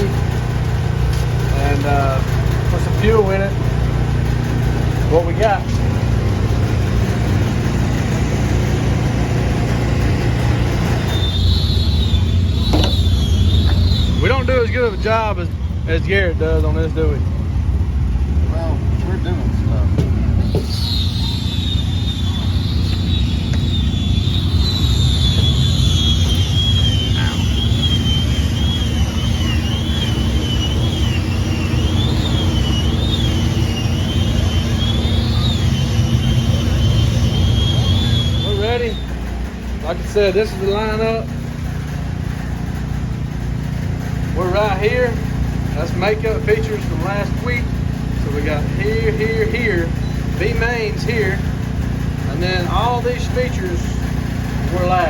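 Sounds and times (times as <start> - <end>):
engine rumble: 0.0 - 55.0
high wavering whine: 0.0 - 55.0.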